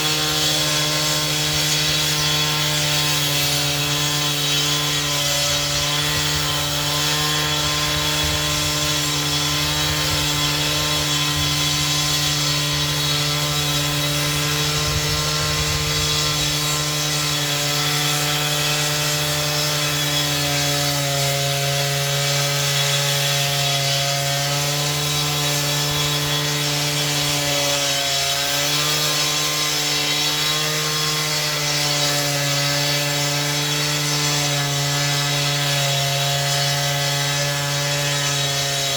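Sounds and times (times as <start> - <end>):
power saw cutting: 0.0 - 38.9.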